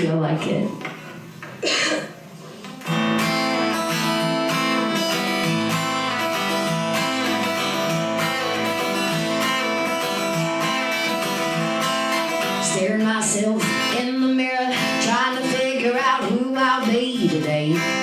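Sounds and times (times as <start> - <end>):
acoustic guitar strumming chords: 2.8 - 18.0.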